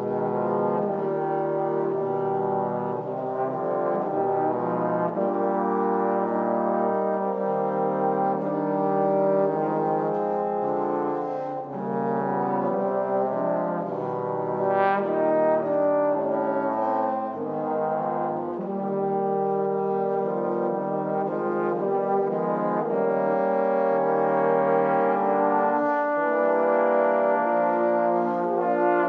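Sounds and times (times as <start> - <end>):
trombones playing in harmony: 0.0 - 29.0.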